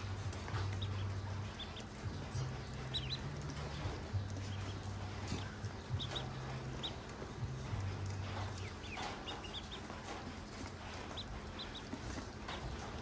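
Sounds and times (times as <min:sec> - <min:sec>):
ducklings peeping: 0:00.0 - 0:13.0
low hum: 0:00.0 - 0:13.0.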